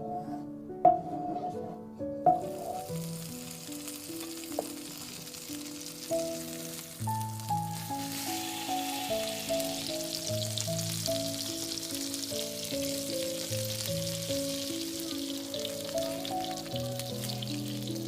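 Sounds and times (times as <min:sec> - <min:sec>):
background music: 0:00.0 - 0:18.0
food sizzling in a pan: 0:02.3 - 0:18.0.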